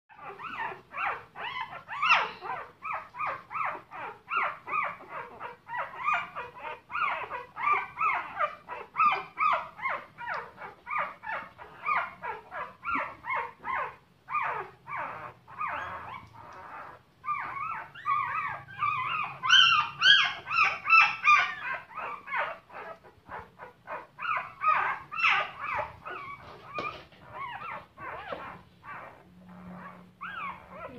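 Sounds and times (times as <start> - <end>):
puppies whimpering: 0.1 - 30.9.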